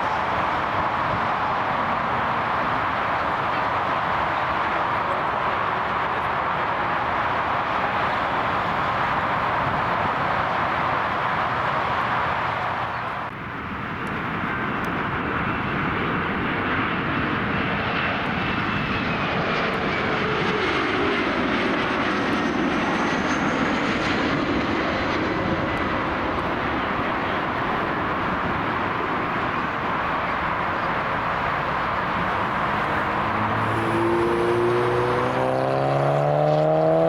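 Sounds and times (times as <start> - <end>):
jet airliner passing overhead: 0.0 - 37.0.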